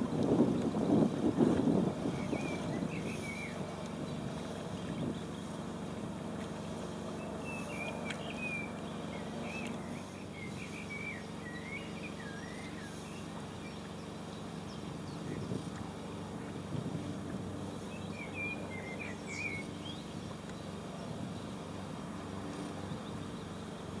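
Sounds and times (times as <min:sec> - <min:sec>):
songbird singing: 0:00.0 - 0:24.0
wind: 0:00.0 - 0:24.0.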